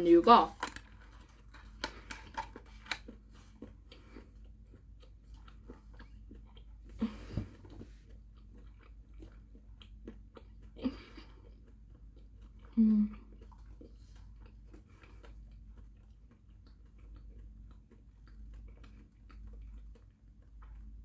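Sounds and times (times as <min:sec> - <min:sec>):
person chewing chocolate: 0:00.5 - 0:21.0.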